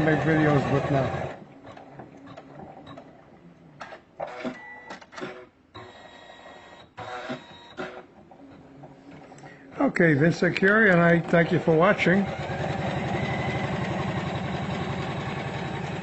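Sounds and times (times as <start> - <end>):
embroidery machine stitching: 0.0 - 3.2, 3.8 - 16.0.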